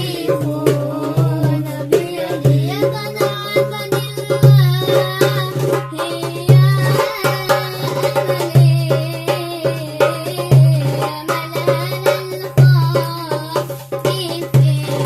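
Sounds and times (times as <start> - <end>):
darbuka drumming: 0.0 - 15.0.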